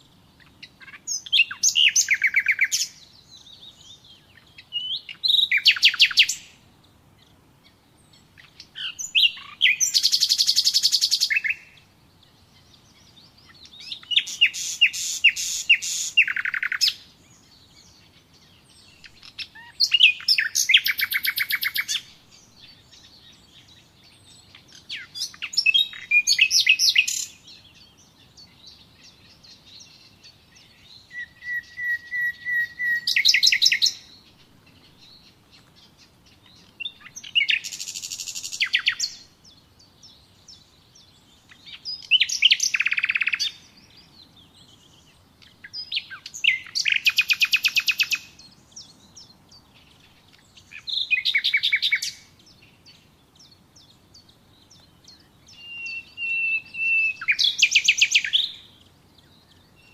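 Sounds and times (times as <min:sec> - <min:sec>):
songbird trilling and whistling: 0:00.4 - 0:06.6, 0:08.0 - 0:11.8, 0:12.6 - 0:18.0, 0:18.6 - 0:59.9.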